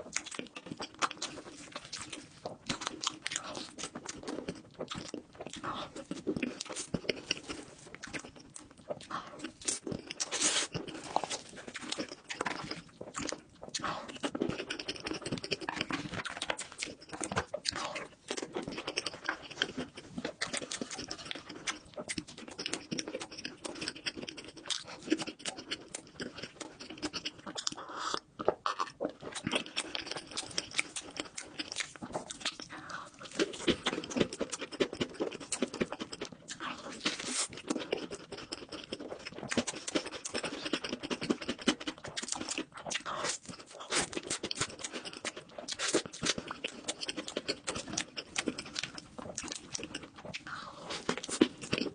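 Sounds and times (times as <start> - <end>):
chewing with wet mouth sounds: 0.0 - 51.9
crackly bites of snacks: 0.0 - 51.9.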